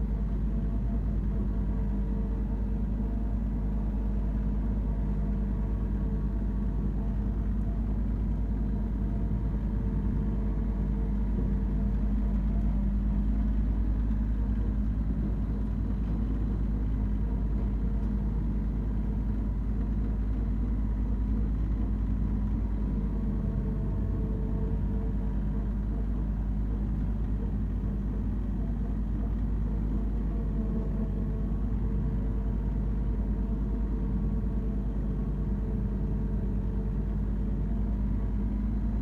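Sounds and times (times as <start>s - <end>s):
tractor diesel engine droning: 0.0s - 39.0s.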